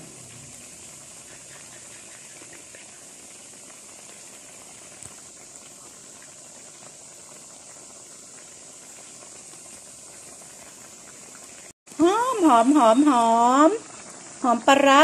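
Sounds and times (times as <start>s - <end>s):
curry bubbling in a wok: 0.0s - 15.0s.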